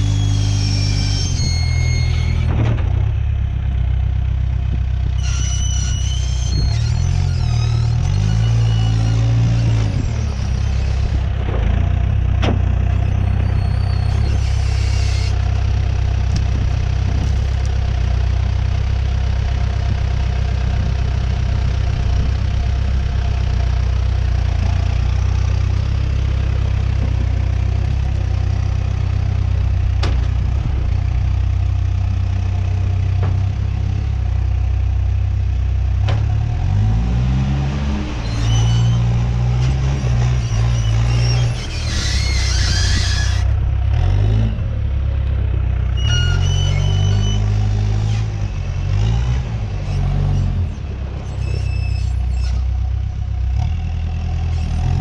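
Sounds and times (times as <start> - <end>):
diesel engine idling: 0.0 - 37.0, 38.5 - 55.0.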